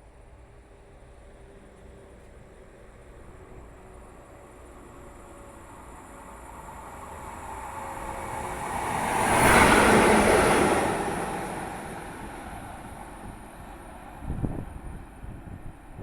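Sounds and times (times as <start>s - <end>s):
electric locomotive passing: 0.0s - 16.0s.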